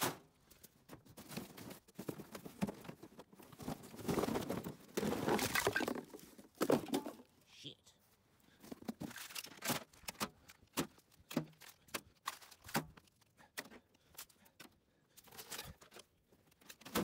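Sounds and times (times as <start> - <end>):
small junk items clattering: 0.0 - 7.4, 8.5 - 17.0.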